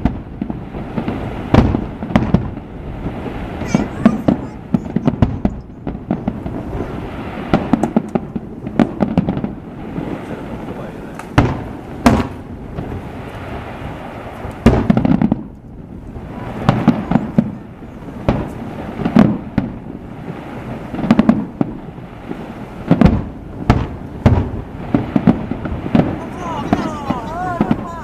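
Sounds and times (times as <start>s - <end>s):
fireworks bursting with bangs: 0.0s - 28.0s
low rumbling echo: 0.0s - 28.0s.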